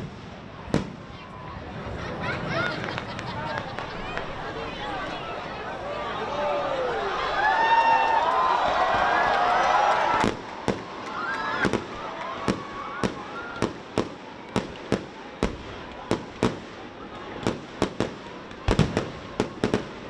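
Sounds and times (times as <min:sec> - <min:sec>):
fireworks bangs: 0:00.0 - 0:09.4, 0:10.0 - 0:20.0
faint crowd voices: 0:00.0 - 0:20.0.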